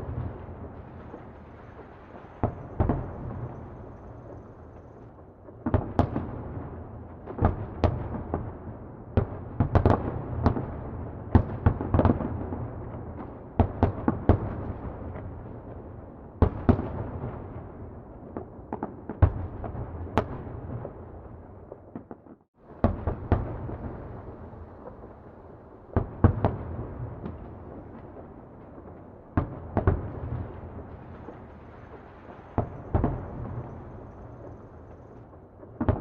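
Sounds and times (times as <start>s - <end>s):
distant fireworks exploding: 0.0s - 36.0s.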